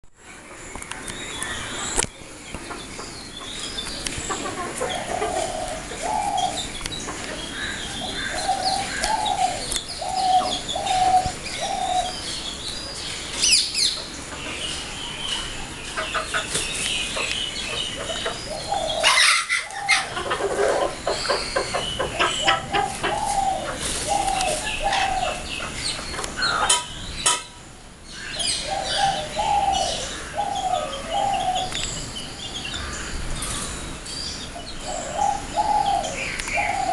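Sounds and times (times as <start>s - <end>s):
chickens clucking and chirping: 0.3s - 36.9s.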